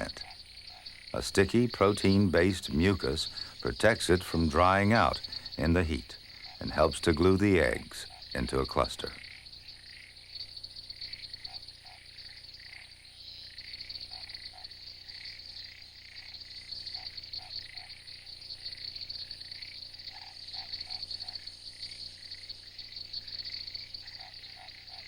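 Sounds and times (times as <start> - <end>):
frogs croaking in a chorus: 0.0 - 25.0
insects trilling: 0.0 - 25.0.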